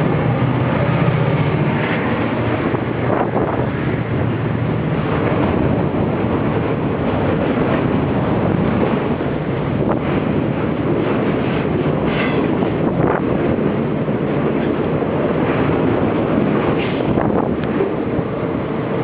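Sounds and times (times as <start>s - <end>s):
diesel locomotives at full throttle: 0.0s - 19.0s.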